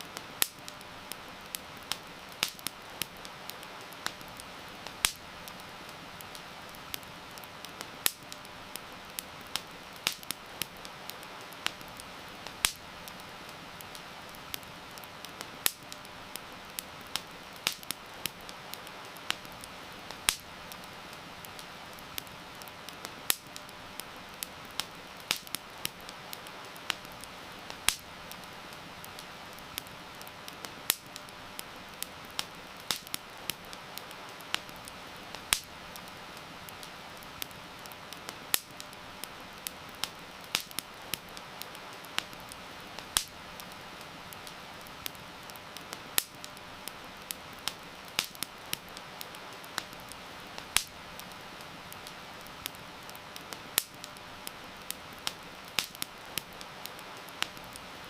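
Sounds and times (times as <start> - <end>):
heavy rain hiss: 0.0 - 58.0
wood fire crackling and popping: 0.0 - 58.0.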